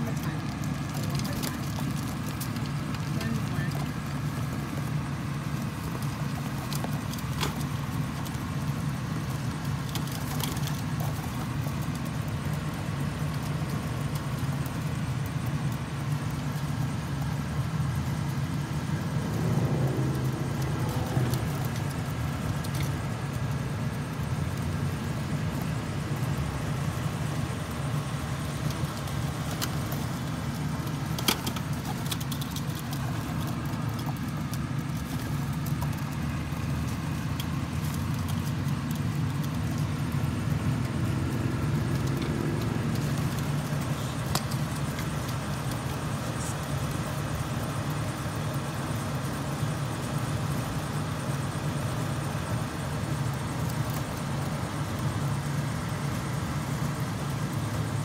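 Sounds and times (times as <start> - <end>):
air-conditioning unit humming: 0.0 - 58.0.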